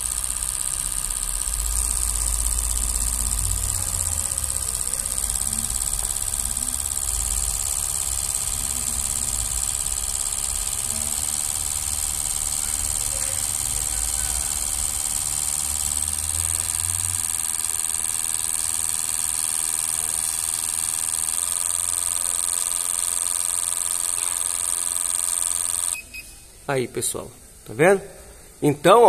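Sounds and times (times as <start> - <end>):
injectors spraying hiss: 0.0 - 26.0
test bench mechanical hum: 0.0 - 29.0.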